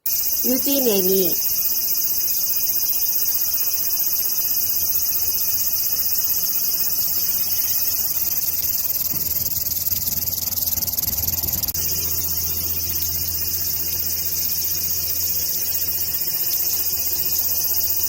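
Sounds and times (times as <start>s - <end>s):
cicada buzzing: 0.0s - 18.0s.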